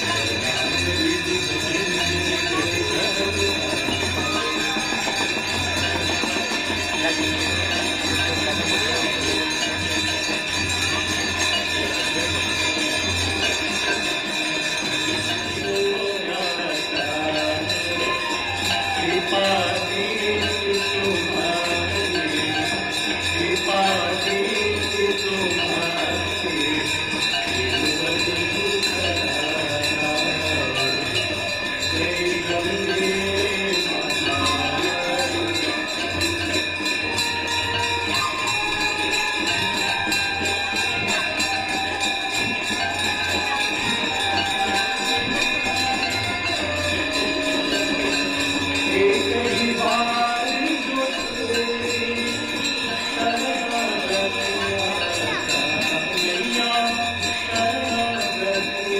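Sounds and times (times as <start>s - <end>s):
small bells ringing: 0.0s - 58.9s.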